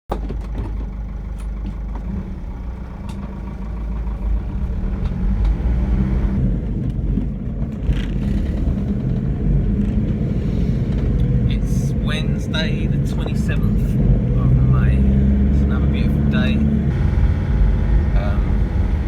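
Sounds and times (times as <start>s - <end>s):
car engine rumble: 0.1s - 19.0s
road noise: 0.1s - 19.0s.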